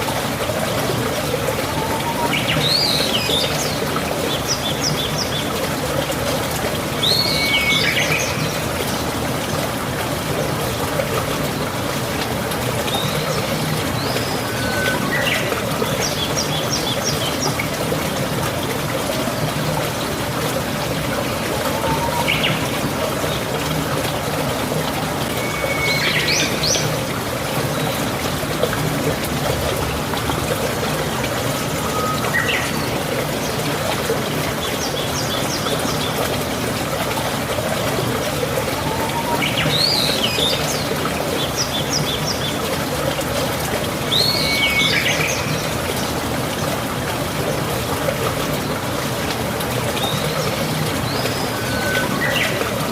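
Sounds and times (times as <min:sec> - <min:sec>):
water trickling: 0:00.0 - 0:52.9.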